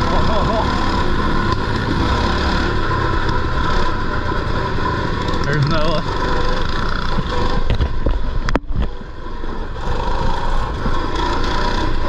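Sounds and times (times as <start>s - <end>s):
mini bike engine under throttle: 0.0s - 12.0s.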